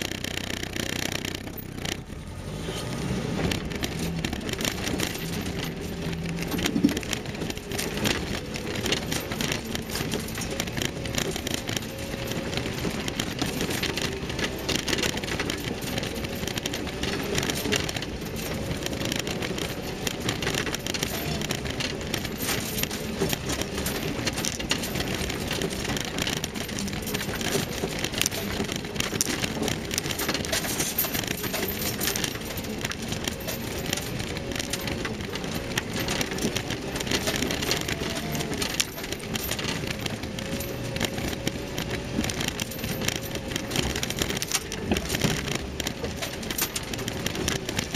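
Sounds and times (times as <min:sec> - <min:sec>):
engine running: 0:00.0 - 0:47.9
vehicle rattles and knocks: 0:00.0 - 0:47.9.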